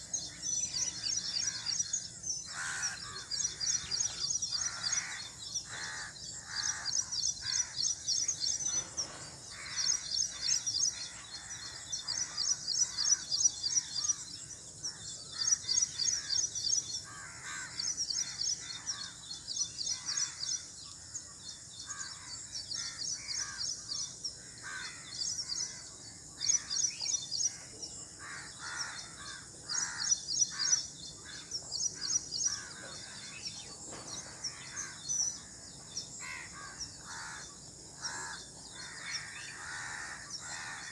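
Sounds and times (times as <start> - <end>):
harsh bird calls: 0.0 - 40.9.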